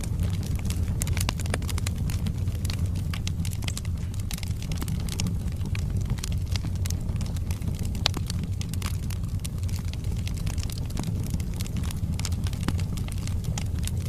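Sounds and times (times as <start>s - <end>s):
fire rumbling: 0.0s - 14.0s
logs crackling and popping: 0.0s - 14.0s.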